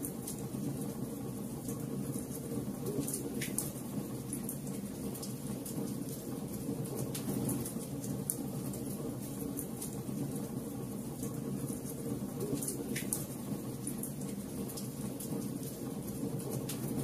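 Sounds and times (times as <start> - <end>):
wood fire crackling and popping: 0.0 - 0.9, 1.6 - 17.0.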